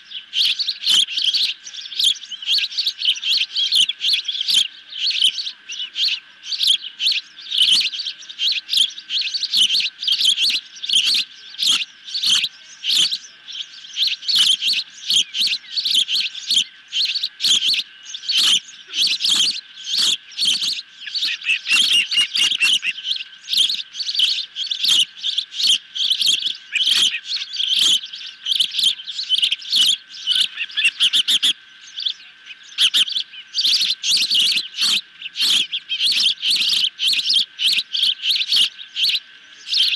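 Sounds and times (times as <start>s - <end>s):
ospreys chirping: 0.0s - 39.9s.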